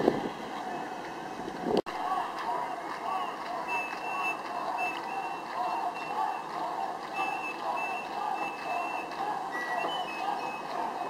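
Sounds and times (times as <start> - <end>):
crowd hubbub: 0.0 - 11.0.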